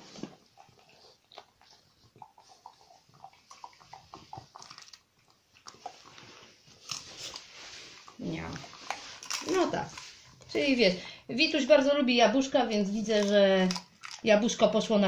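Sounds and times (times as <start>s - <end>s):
dog chewing a treat: 0.0s - 10.6s, 12.9s - 14.7s.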